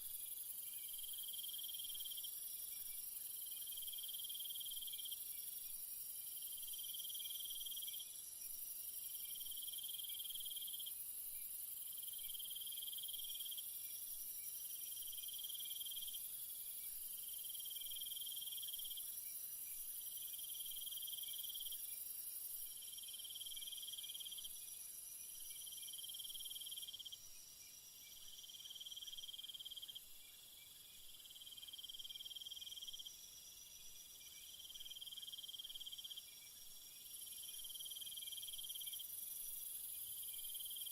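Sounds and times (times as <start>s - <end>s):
insect drone: 0.0s - 40.9s.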